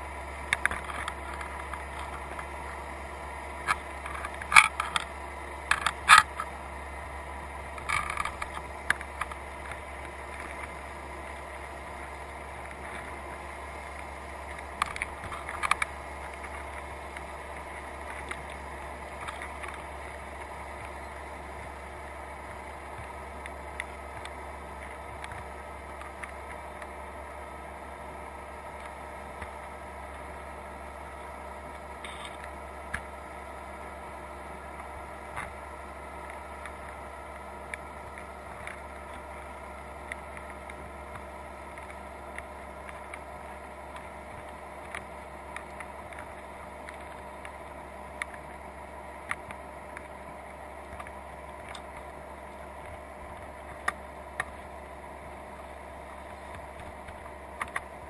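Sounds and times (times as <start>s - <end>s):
underwater low hum: 0.0s - 58.0s.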